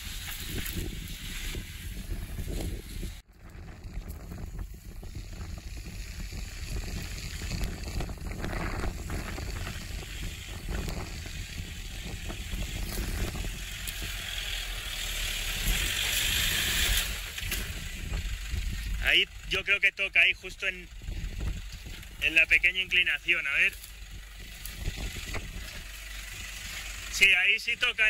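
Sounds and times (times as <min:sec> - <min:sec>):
diesel engine rumble: 0:00.0 - 0:28.0.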